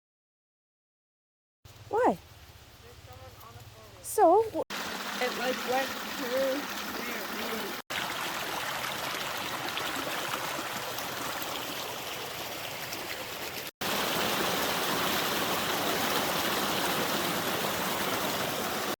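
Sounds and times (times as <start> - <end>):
creek water flowing: 2.8 - 19.0.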